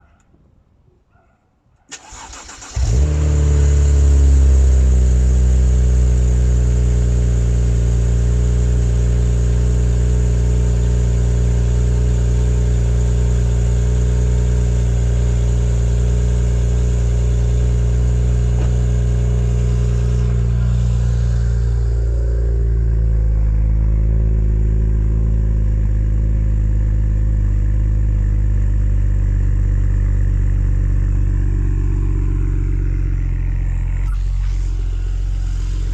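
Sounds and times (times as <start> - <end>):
car engine starting and idling: 1.9 - 35.9.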